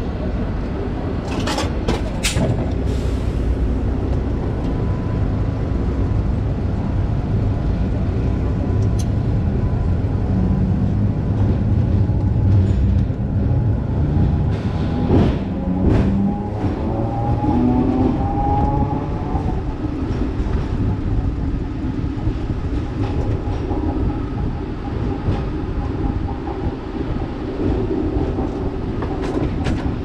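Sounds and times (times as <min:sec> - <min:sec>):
tram rumbling and humming: 0:00.0 - 0:30.0.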